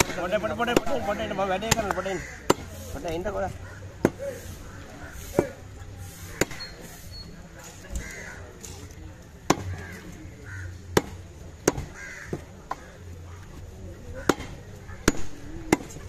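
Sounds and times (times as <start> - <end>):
birds calling: 0.0 - 8.5, 9.6 - 10.9, 11.7 - 15.8.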